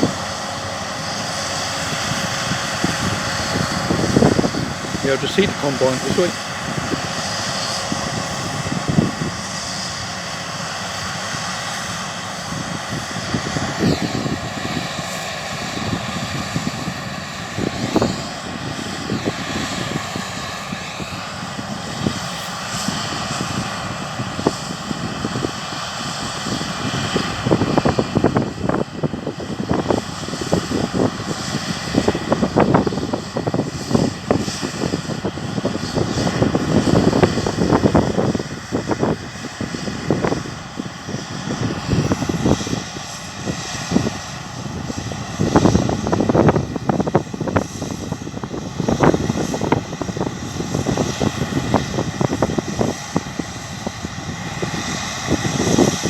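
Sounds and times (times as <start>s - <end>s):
harvest machinery engines droning: 0.0s - 56.0s
wind gusts buffeting microphone: 0.0s - 56.0s.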